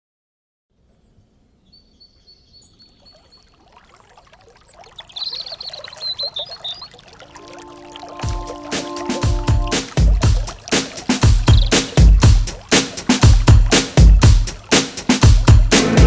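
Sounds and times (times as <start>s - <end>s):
water trickling: 2.6s - 15.8s.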